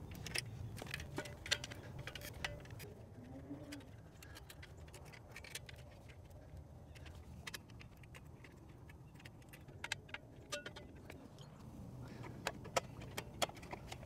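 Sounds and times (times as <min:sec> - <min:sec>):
wires clicking in metal box: 0:00.0 - 0:11.5.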